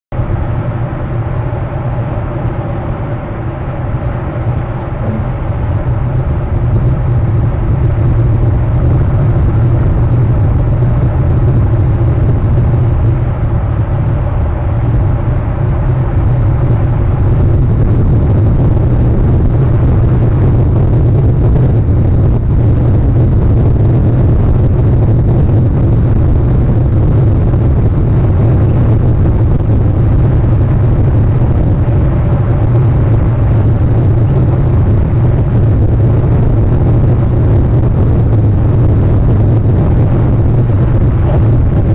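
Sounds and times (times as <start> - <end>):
steady low rumbling: 0.1 - 41.9.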